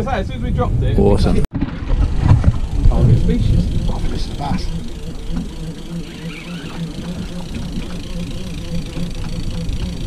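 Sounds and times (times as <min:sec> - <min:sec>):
outboard engine idling: 0:01.8 - 0:10.0.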